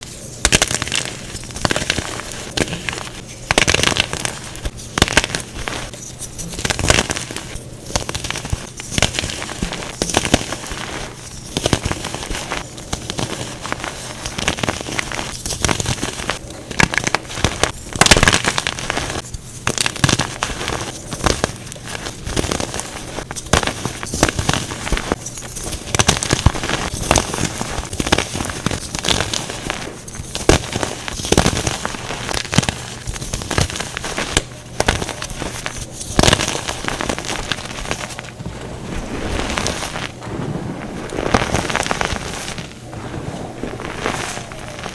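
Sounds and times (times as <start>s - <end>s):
chalk crushing and crunching: 0.0s - 44.9s.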